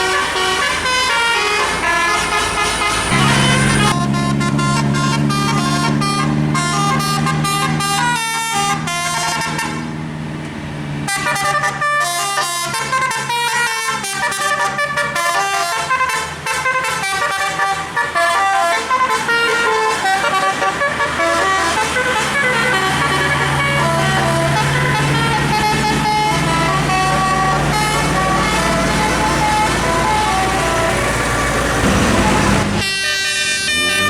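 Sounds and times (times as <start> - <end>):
bus engine running: 0.0 - 34.0
bus multi-tone horn melody: 0.0 - 34.0.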